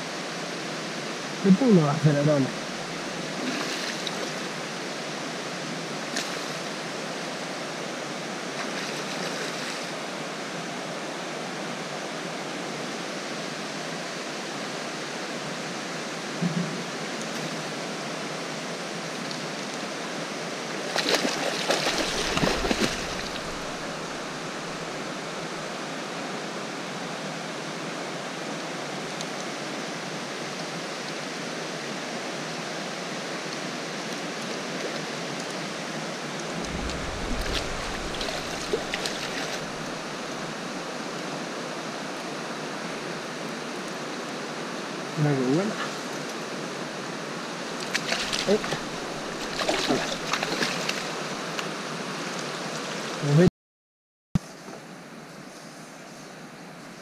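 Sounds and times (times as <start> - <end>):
river water rushing over weir: 0.0 - 45.1, 46.0 - 53.2.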